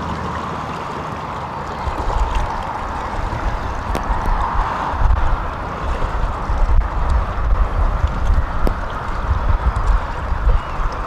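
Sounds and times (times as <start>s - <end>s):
choppy water splashing: 0.0s - 11.0s
strong wind: 1.8s - 11.0s.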